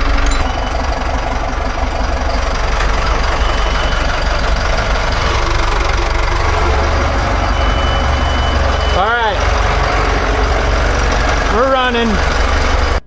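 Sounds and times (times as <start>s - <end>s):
marine diesel engine idling: 0.0s - 13.0s.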